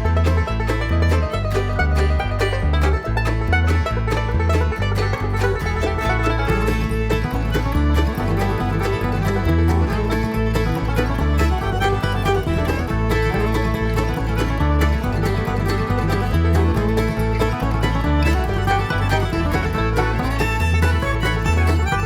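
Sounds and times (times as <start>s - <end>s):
banjo: 0.0s - 22.0s
guitar: 0.0s - 22.0s
steady bass beat: 0.0s - 22.0s.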